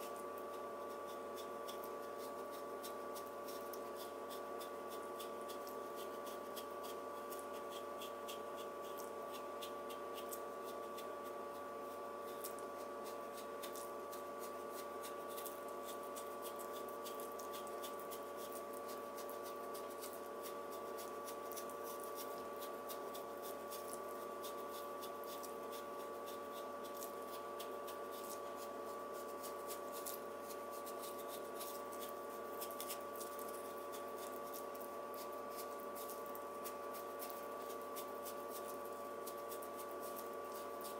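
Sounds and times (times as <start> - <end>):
knife shaving radish: 0.0 - 40.9
steady hum: 0.0 - 40.9.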